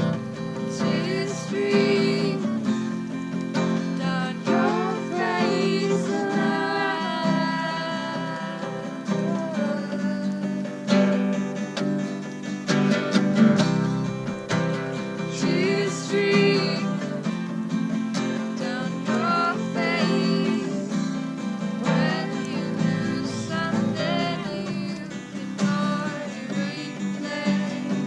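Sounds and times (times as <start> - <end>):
person singing: 0.0 - 3.0, 3.6 - 11.4, 15.0 - 17.5, 18.2 - 28.0
acoustic guitar strumming: 0.0 - 28.0.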